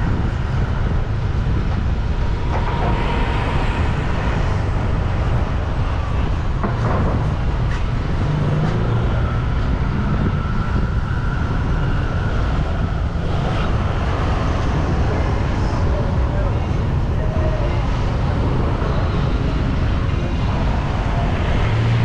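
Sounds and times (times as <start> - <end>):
heavy low rumble: 0.0 - 22.0
passing vehicle engines and tyres: 0.0 - 22.0.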